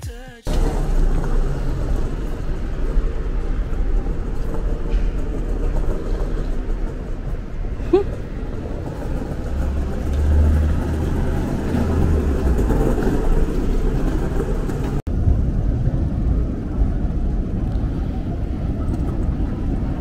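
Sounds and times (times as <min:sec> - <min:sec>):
car road noise and engine: 0:00.0 - 0:20.0.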